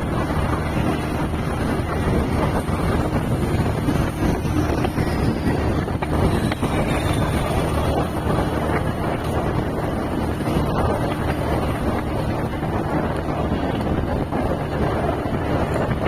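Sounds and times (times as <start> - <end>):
road and engine rumble: 0.0 - 16.0
wind rushing over microphone: 0.0 - 16.0.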